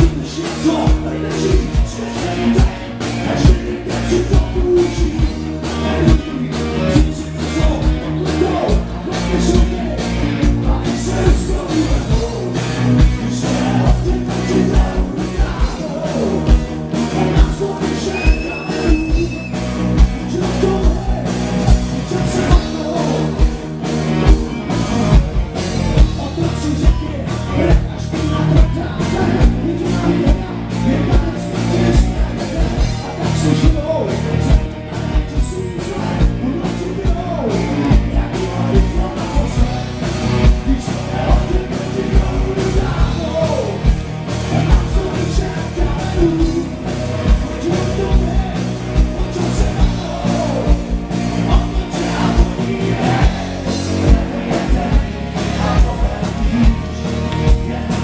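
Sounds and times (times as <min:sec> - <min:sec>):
live rock band playing: 0:00.0 - 0:58.0
person singing: 0:00.0 - 0:58.0
steady drum beat: 0:00.0 - 0:58.0.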